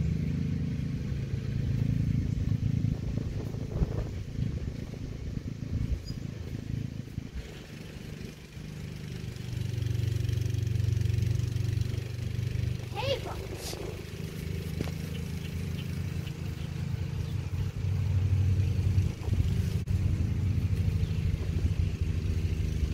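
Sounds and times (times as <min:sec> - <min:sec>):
engine humming: 0:00.0 - 0:22.9.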